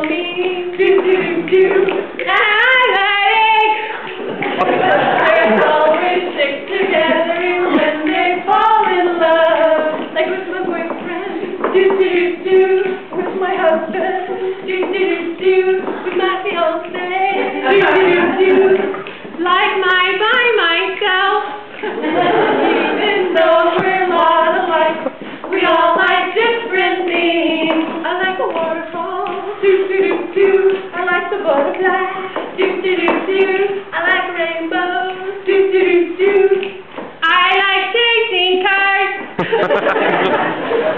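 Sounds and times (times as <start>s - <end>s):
women singing unaccompanied: 0.0s - 39.4s.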